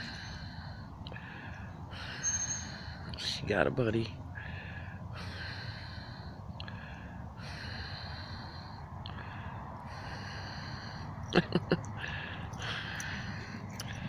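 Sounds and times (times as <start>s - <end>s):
breathing close to microphone: 0.0s - 3.2s, 4.3s - 11.3s, 11.9s - 14.0s
steady low rumble: 0.0s - 14.0s.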